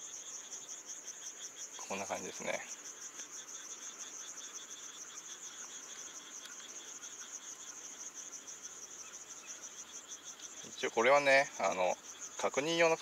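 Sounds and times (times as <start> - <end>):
crickets chirping in chorus: 0.0 - 13.0.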